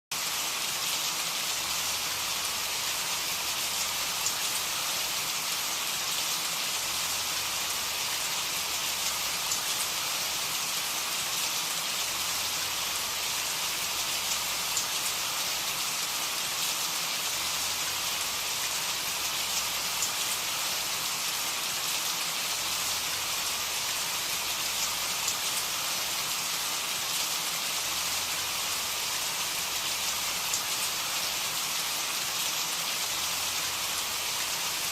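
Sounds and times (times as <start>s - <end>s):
rain pattering on a surface: 0.2s - 34.9s.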